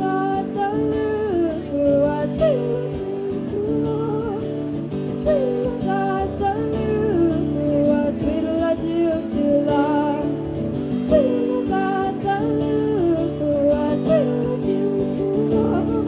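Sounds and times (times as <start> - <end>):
acoustic guitar: 0.0 - 16.0
woman singing: 0.0 - 16.0.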